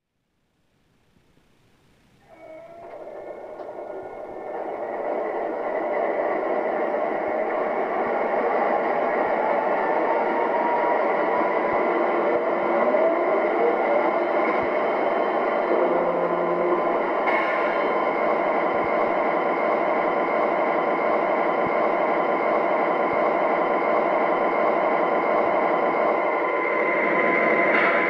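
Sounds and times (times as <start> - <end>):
model train diesel engine sound: 2.2 - 28.0
rising whine: 2.3 - 28.0.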